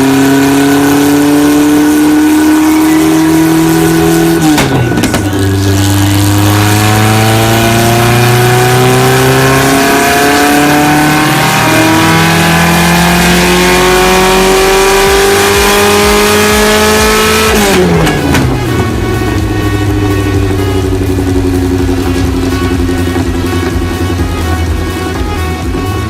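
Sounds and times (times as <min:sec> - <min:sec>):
car engine revving high: 0:00.0 - 0:26.0.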